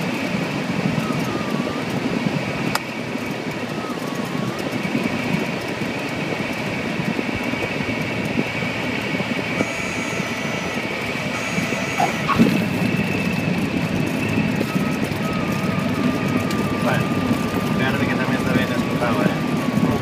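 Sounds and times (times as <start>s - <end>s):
propeller engine idling: 0.0s - 20.0s
steady whine: 0.0s - 20.0s.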